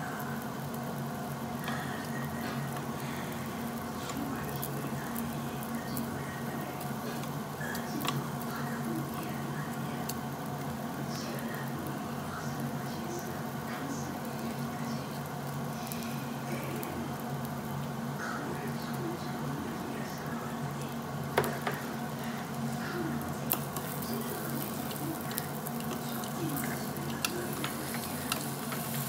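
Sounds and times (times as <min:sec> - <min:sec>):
meat sizzling on a grill: 0:00.0 - 0:29.0
steady low hum: 0:00.0 - 0:29.0
small crackles and pops: 0:00.1 - 0:29.0.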